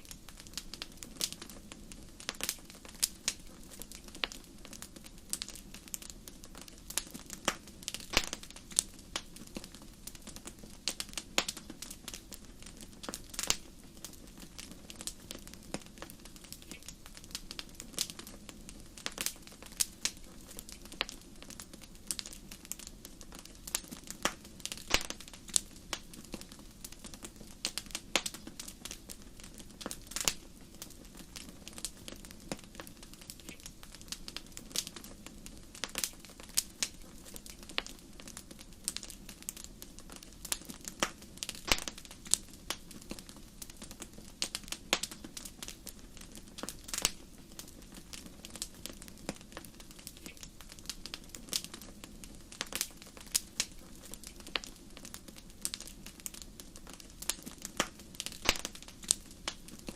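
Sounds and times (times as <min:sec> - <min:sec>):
flames rumbling: 0:00.0 - 0:59.9
wood fire crackling: 0:00.0 - 0:59.9.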